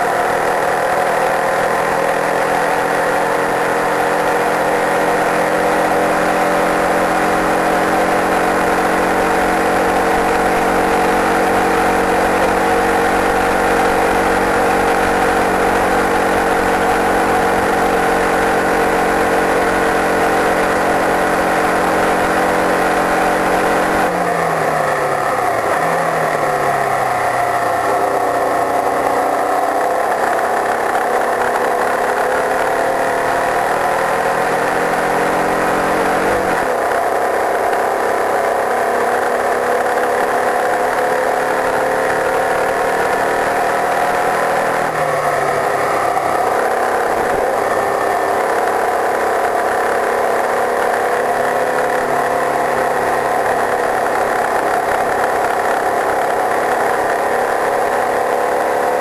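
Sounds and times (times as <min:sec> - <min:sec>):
race car engine under load: 0:00.0 - 0:59.0
wind and road noise: 0:00.0 - 0:59.0.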